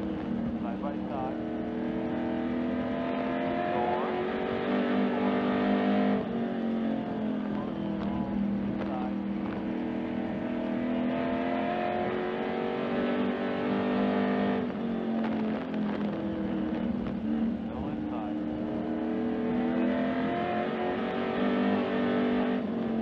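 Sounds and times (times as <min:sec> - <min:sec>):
race car engine: 0:00.0 - 0:23.0.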